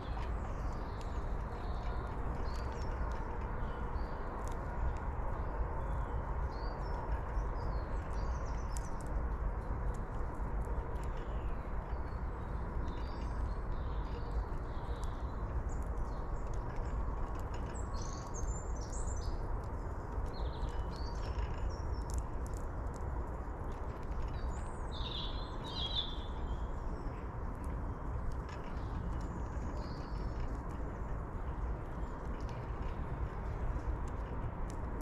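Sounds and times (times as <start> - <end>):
low outdoor rumble: 0.0 - 35.0
small birds chirping: 0.0 - 35.0.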